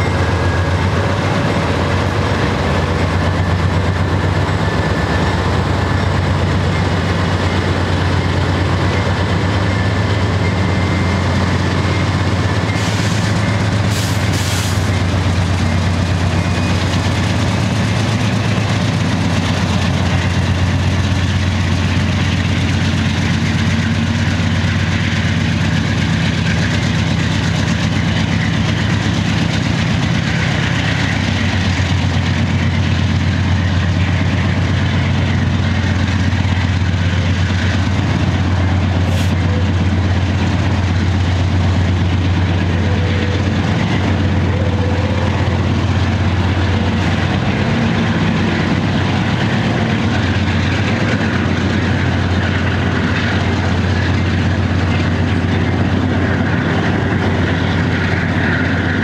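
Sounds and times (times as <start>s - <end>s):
diesel locomotive engine drone: 0.0s - 59.0s
train cars rolling on rails: 0.0s - 59.0s.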